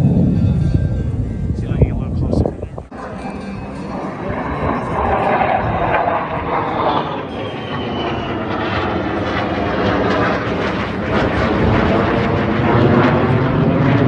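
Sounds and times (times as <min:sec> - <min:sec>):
faint falling whine: 0:00.0 - 0:11.4
jet fighters flying overhead: 0:00.0 - 0:14.0.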